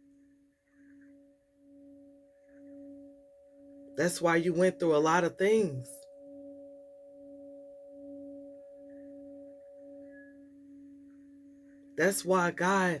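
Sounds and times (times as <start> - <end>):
steady pure tone drone: 0.0 - 13.0.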